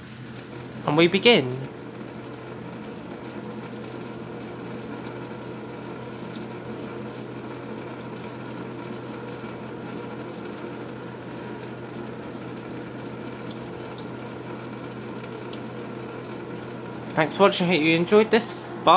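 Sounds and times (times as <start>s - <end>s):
dishwasher pump hum: 0.0s - 18.9s
water rushing in dishwasher: 0.0s - 18.9s.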